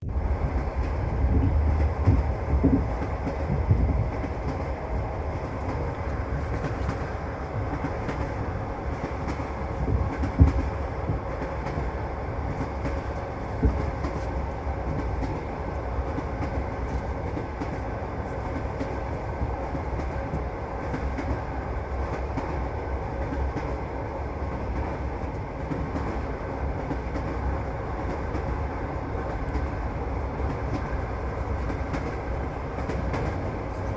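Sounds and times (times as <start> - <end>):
train low rumble: 0.0 - 33.9.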